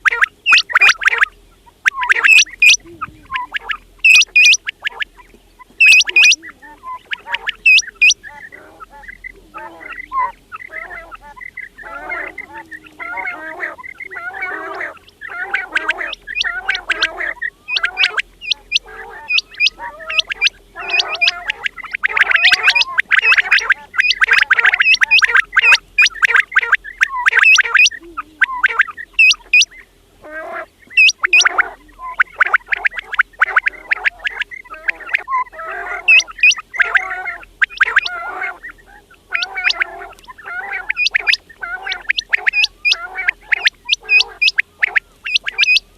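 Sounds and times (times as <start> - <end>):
quails calling: 0.0 - 45.9.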